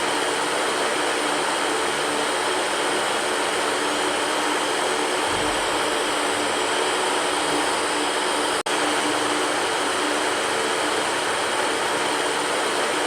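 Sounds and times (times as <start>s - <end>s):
electric fan whooshing: 0.0s - 13.0s.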